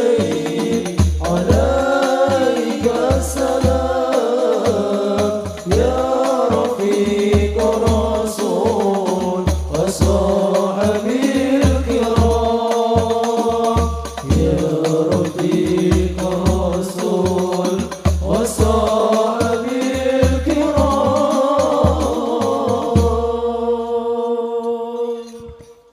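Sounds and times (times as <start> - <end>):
frame drums beating: 0.0 - 23.5
voices singing chant-like melody: 0.0 - 25.9.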